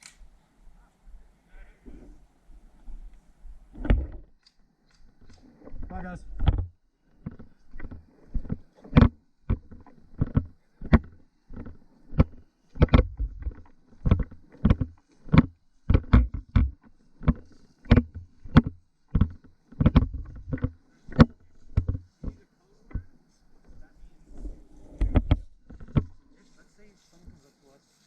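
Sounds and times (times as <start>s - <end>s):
footsteps walking: 4.9s - 28.0s.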